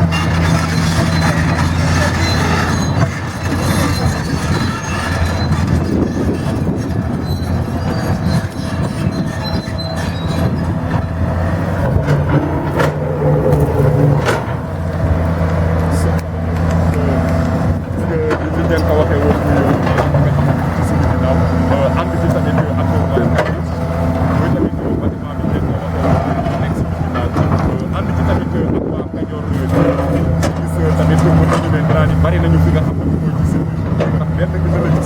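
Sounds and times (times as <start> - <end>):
heavy diesel engine running: 0.0 - 35.0
people's voices: 0.0 - 35.0.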